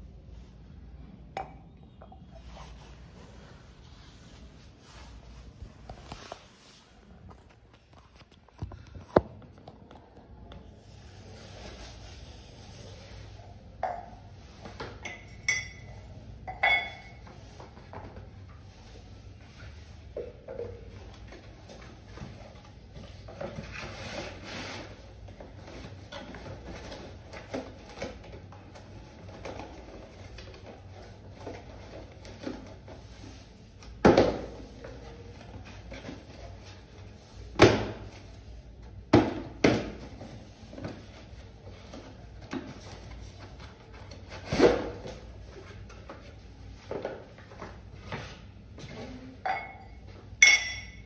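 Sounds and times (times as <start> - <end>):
cardboard being handled and folded: 2.2 - 13.6, 17.3 - 49.3.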